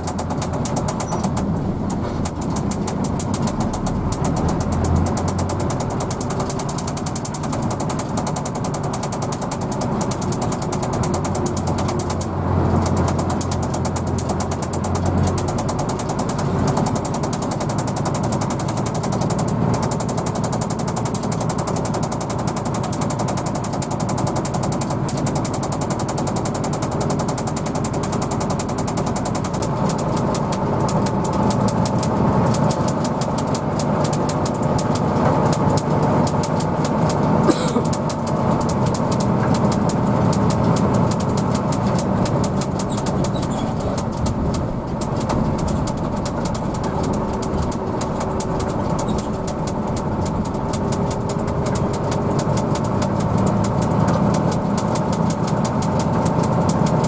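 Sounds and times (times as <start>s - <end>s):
bus diesel engine running: 0.0s - 57.0s
fast rattling ticks: 0.0s - 57.0s.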